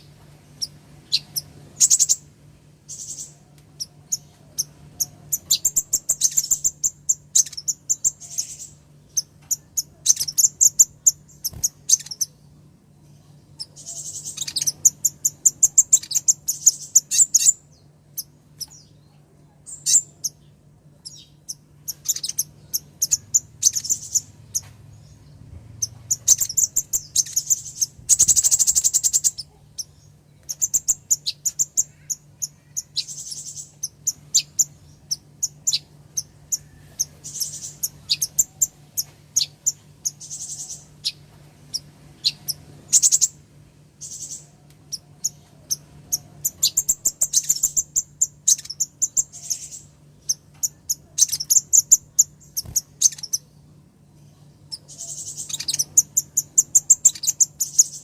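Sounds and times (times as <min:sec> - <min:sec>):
high-pitched bird chirps: 0:00.0 - 0:02.2, 0:02.9 - 0:12.4, 0:13.0 - 0:43.4, 0:44.0 - 0:53.6, 0:54.3 - 0:58.0
bird trill: 0:00.0 - 0:43.4, 0:44.0 - 0:53.6, 0:54.3 - 0:58.0
faint low hum: 0:00.0 - 0:58.0.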